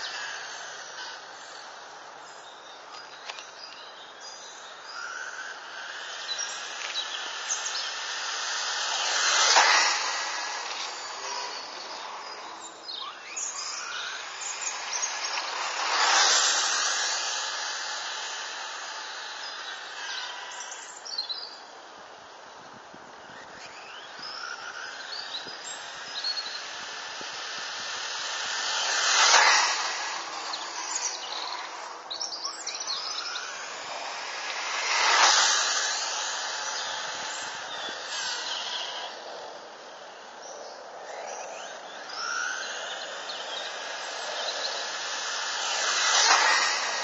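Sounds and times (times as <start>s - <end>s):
rc car motor whine: 0.0s - 47.0s.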